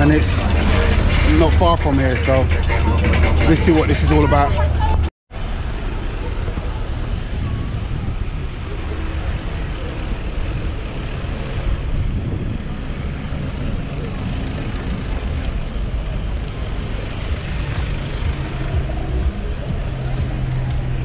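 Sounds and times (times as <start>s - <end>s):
car engines idling: 0.0s - 21.0s.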